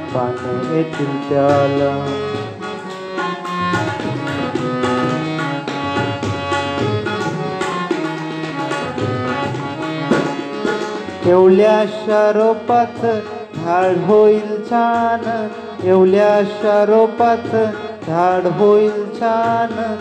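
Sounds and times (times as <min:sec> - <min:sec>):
held melody line: 0:00.0 - 0:20.0
tabla rhythm: 0:00.0 - 0:20.0.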